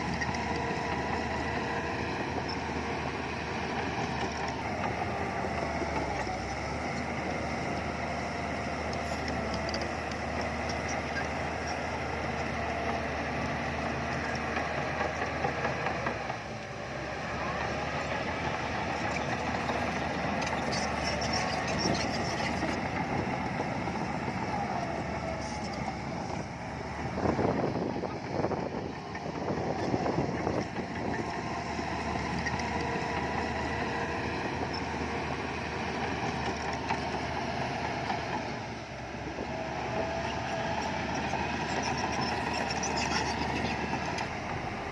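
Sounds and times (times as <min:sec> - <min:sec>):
heavy machinery diesel engines: 0:00.0 - 0:44.9.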